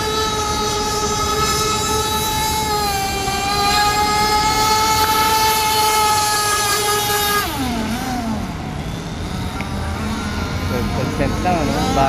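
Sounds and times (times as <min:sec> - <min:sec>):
model boat motor whining: 0:00.0 - 0:12.0.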